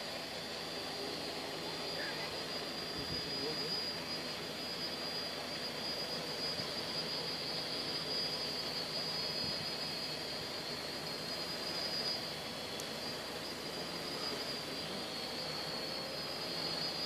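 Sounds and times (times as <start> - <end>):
quadcopter propellers whirring: 0.0 - 17.0.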